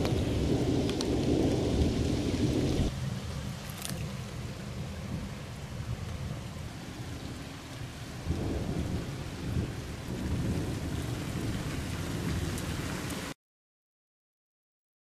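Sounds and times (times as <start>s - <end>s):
thunder rumbling: 0.0s - 13.3s
heavy rain pouring: 0.0s - 13.4s.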